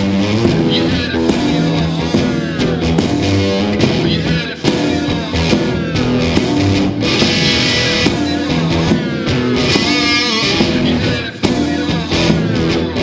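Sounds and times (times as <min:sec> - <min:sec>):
blues guitar song: 0:00.0 - 0:13.0.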